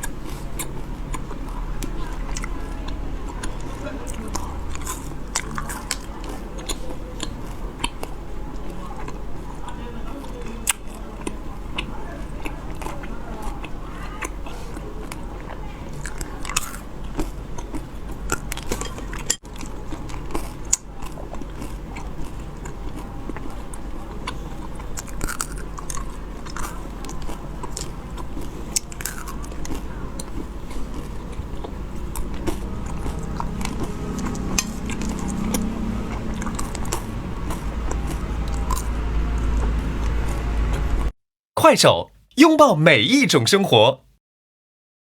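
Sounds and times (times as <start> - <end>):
wet chewing sounds: 0.0 - 41.0.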